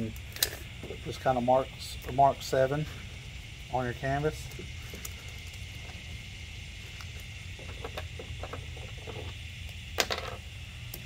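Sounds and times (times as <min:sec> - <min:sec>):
even hiss: 0:00.0 - 0:11.0.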